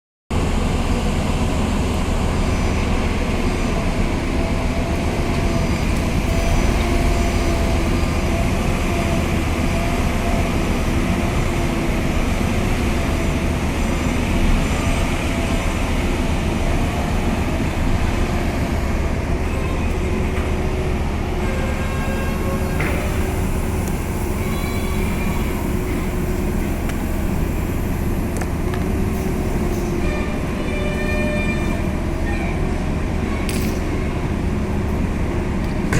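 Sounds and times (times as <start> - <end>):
heavy engine machinery drone: 0.3 - 35.9.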